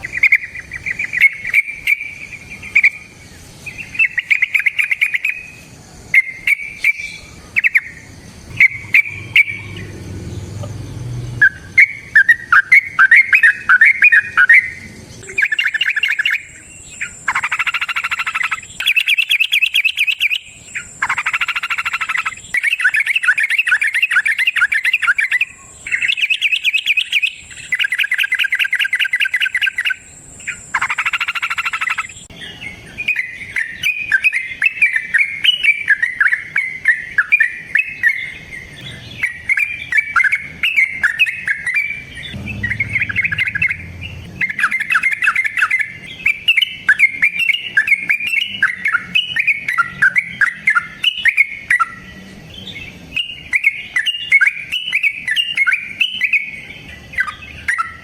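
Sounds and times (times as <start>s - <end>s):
bulbul singing: 0.0s - 58.0s.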